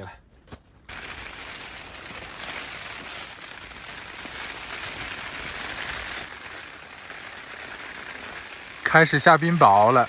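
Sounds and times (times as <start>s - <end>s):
hail and rain on tent fabric: 0.9s - 10.0s.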